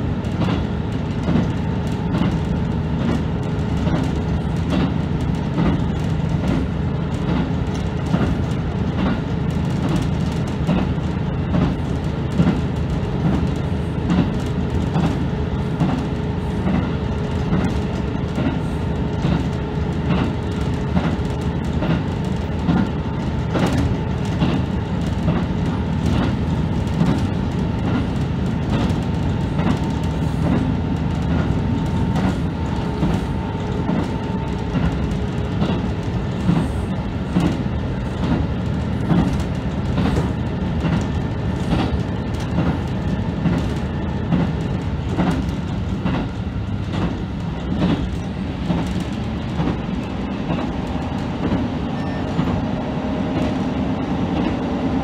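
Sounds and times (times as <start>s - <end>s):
wheels clacking over rail joints: 0.0s - 52.7s
railcar engine hum: 0.0s - 55.0s.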